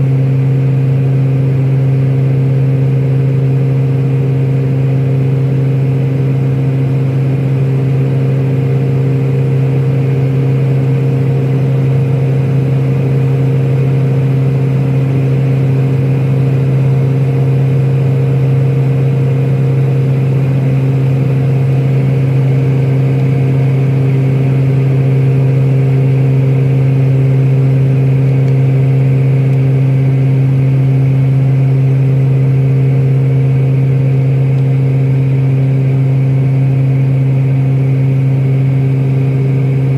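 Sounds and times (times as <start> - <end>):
propeller airliner cabin drone: 0.0 - 39.9.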